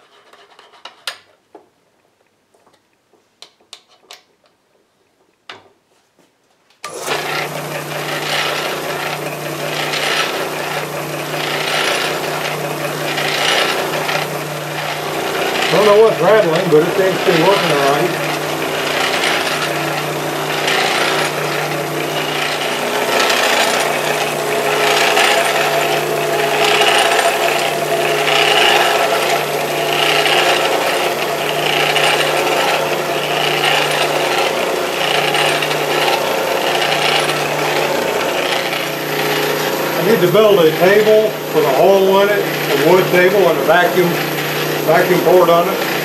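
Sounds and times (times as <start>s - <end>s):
drill press rattling: 6.9s - 46.0s.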